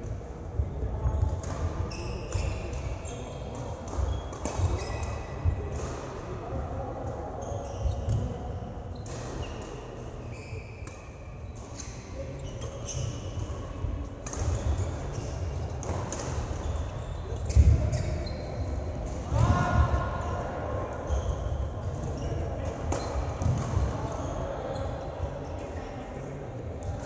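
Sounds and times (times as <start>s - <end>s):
distant voices of players: 0.0s - 27.0s
shoe squeaks: 1.0s - 5.5s, 7.3s - 20.3s, 20.9s - 25.7s.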